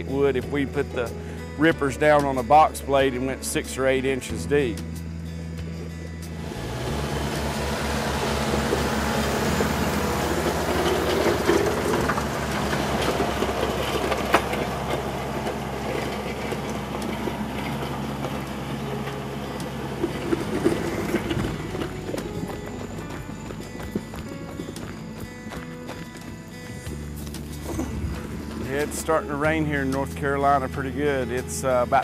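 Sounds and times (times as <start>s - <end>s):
gravel grinding and rattling: 0.0s - 32.0s
tractor diesel engine running: 0.0s - 32.0s.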